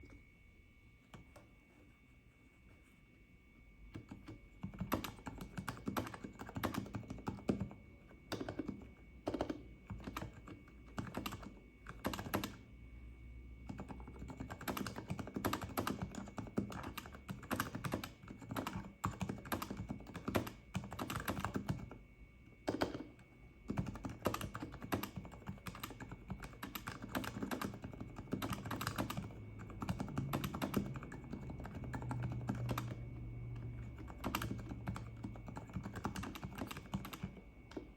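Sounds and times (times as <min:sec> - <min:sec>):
soft muted keyboard typing: 0:03.9 - 0:12.7, 0:13.6 - 0:22.0, 0:22.6 - 0:37.9.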